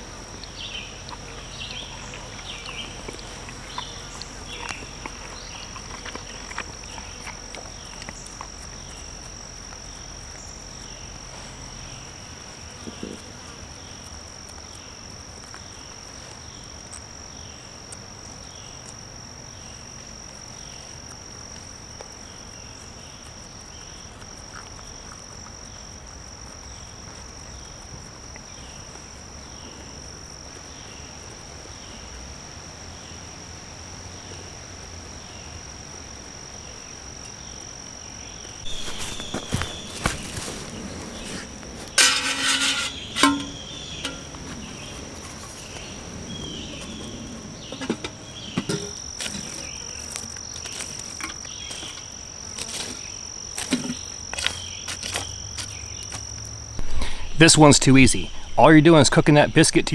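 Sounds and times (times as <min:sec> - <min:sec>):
insect chirping: 0:00.0 - 0:59.9
insects buzzing trill: 0:00.0 - 0:59.9.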